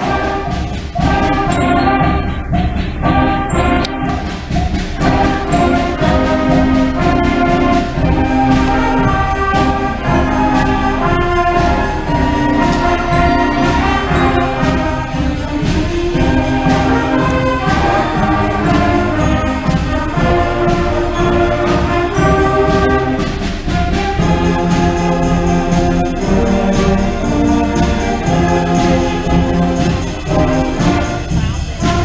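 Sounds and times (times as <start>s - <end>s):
concert band playing: 0.0s - 32.0s.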